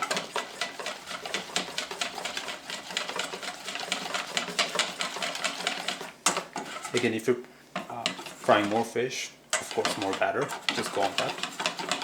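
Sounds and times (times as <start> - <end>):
whisk clicking against bowl: 0.0 - 7.1, 7.8 - 8.9, 9.5 - 12.0.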